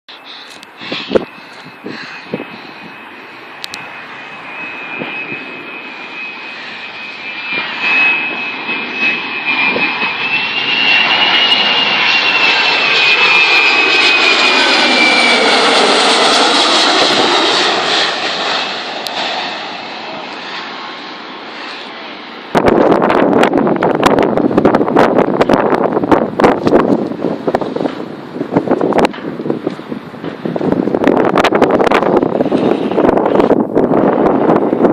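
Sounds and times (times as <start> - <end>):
jet airliner passing low: 0.1 - 34.9.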